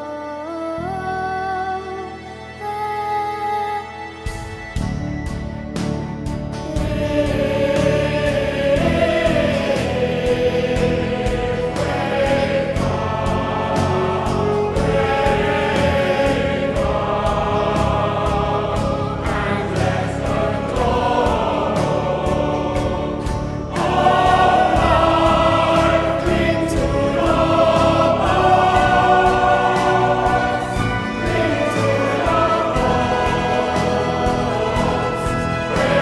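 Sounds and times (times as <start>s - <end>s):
choir singing sustained chords: 0.0s - 36.0s
faint steady beat: 4.8s - 36.0s.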